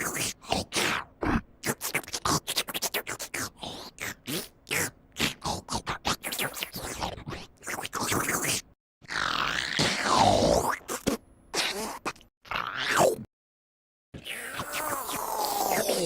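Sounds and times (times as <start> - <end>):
cartoon sucking and squeaky noises: 0.0 - 13.3, 14.2 - 16.0.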